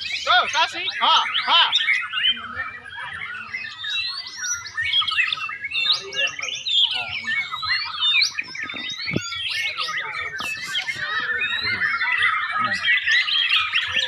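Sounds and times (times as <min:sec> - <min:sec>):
songbirds singing trills: 0:00.0 - 0:14.0.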